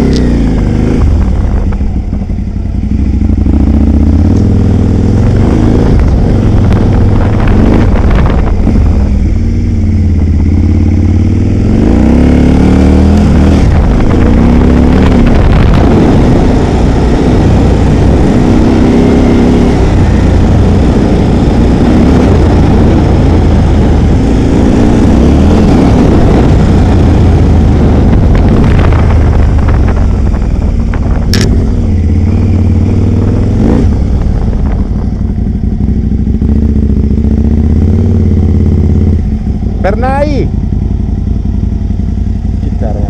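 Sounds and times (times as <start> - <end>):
wind noise on microphone: 0.0 - 42.4
motorcycle engine running: 0.0 - 43.0.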